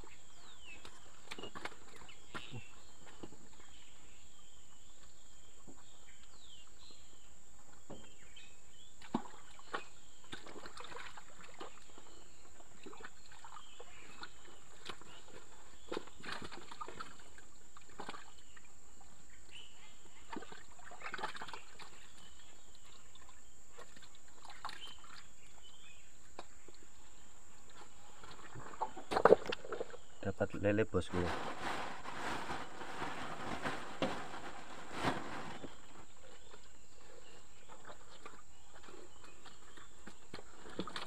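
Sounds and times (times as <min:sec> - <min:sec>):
water sloshing and splashing: 0:00.0 - 0:03.9, 0:07.6 - 0:30.4, 0:31.0 - 0:41.0.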